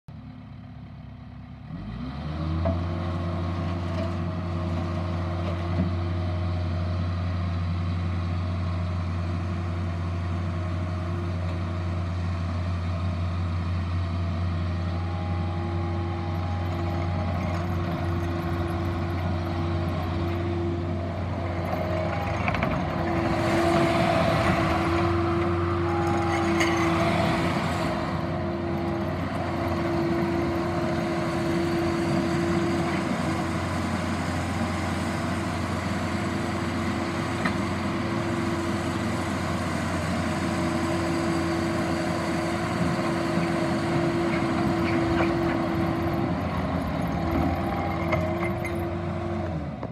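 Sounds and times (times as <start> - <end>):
diesel engine revving: 1.6 - 49.9.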